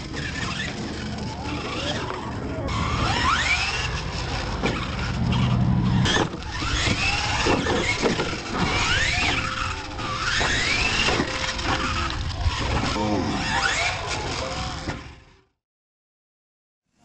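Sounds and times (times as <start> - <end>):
electric motor whining: 0.0 - 15.2.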